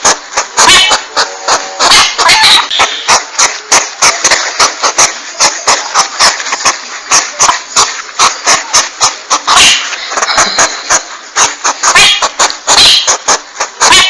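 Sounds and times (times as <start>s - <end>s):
porcupine calls: 0.0s - 14.0s.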